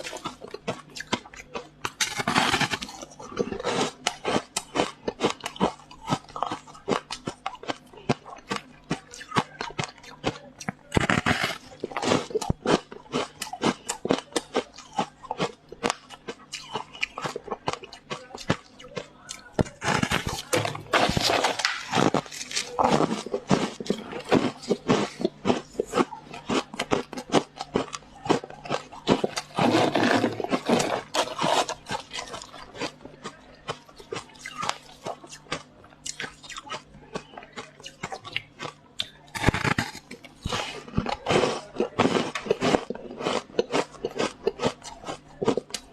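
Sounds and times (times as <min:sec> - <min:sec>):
person crunching ice: 0:00.0 - 0:08.4, 0:11.0 - 0:15.8, 0:16.6 - 0:45.9.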